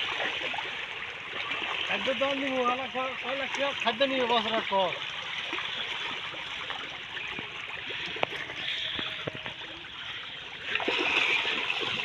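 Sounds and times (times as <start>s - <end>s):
fish splashing in water: 0.0s - 12.0s
water rushing: 0.0s - 12.0s.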